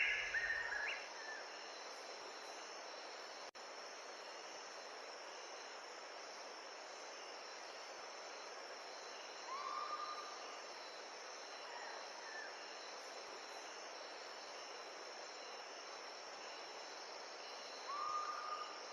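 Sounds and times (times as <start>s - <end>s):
crickets and insects chorus: 0.0s - 18.9s.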